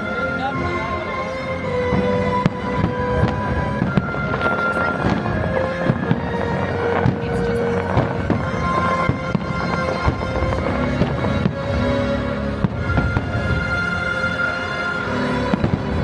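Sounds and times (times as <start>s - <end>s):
loud show music: 0.0s - 16.0s
fireworks bursting: 1.9s - 16.0s.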